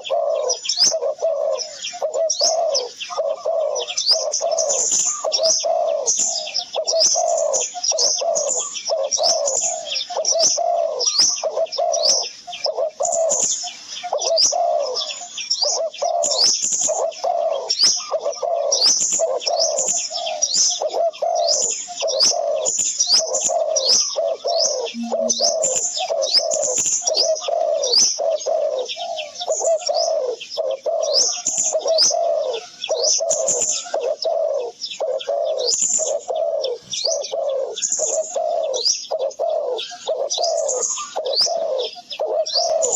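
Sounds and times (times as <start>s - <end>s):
dense high bird chirping: 0.0s - 42.9s
low repeated bird calls: 0.0s - 42.9s.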